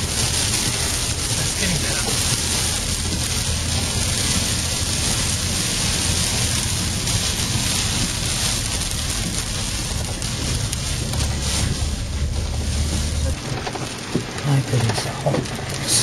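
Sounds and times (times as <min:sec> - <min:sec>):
engine and tyres rumbling: 0:00.0 - 0:16.0
rain hitting a vehicle: 0:00.0 - 0:16.0.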